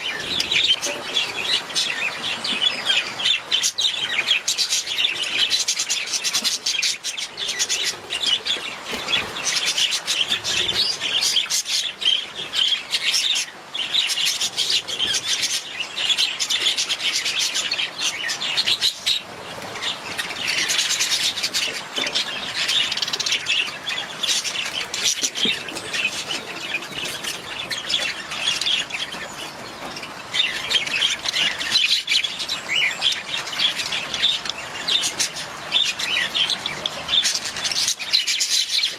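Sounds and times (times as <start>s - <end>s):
budgies chattering and warbling: 0.0s - 38.9s.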